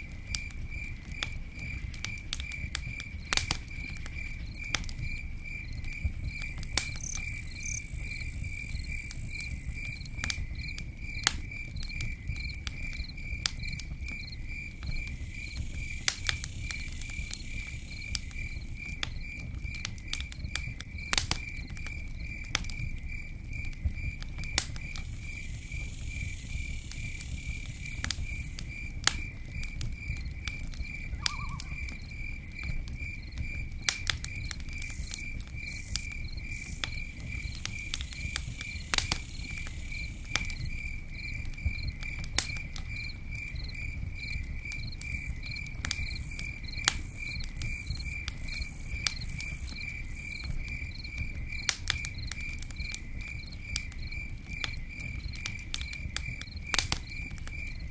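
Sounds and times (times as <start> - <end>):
campfire crackling and popping: 0.0 - 57.9
cricket chirping: 0.0 - 57.9.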